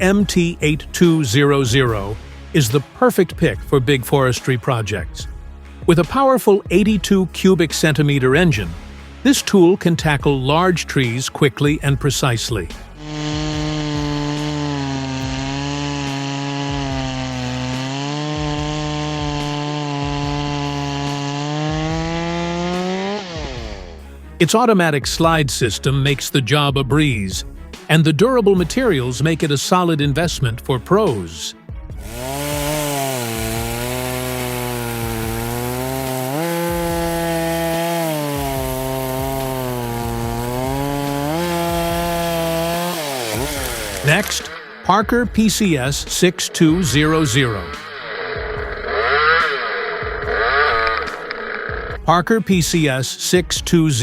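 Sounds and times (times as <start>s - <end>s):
chainsaw cutting wood: 0.0s - 24.7s, 31.9s - 52.9s.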